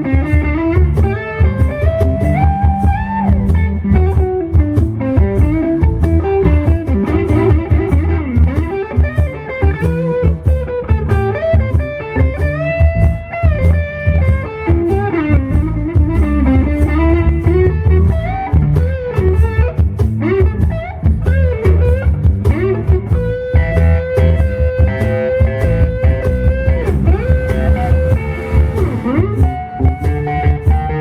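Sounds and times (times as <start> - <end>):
bass guitar: 0.0 - 31.0
drums: 0.0 - 31.0
electric guitar solo: 0.0 - 31.0.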